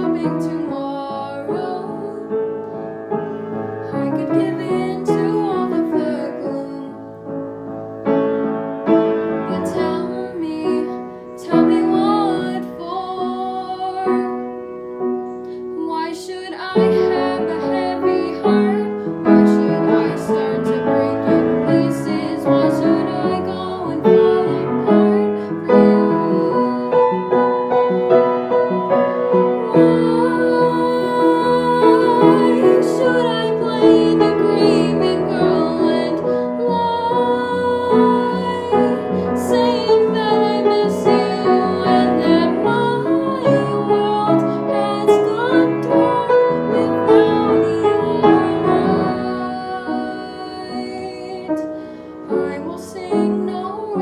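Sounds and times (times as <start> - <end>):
girl singing a ballad: 0.0 - 7.4, 9.0 - 54.0
piano accompaniment: 0.0 - 54.0.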